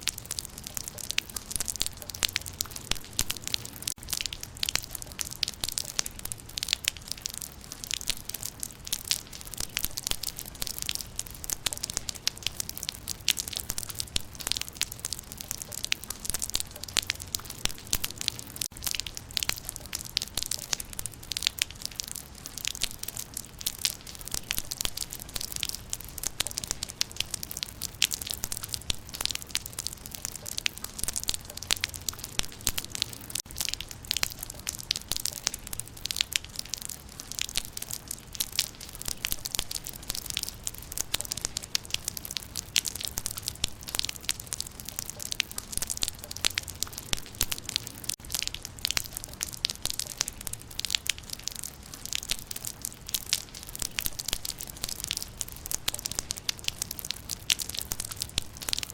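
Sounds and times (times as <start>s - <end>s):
rain pattering on leaves: 0.0s - 58.9s.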